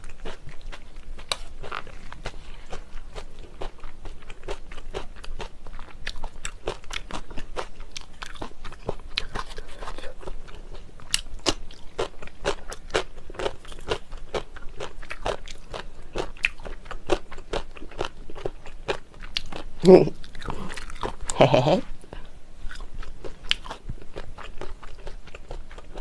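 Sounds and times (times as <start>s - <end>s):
chewing with quick crunches: 0.0s - 21.4s, 22.1s - 26.0s.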